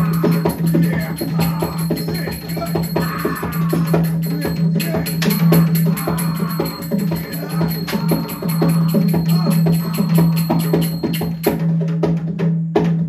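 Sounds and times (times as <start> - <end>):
fast drumming with clicking strokes: 0.0 - 13.0.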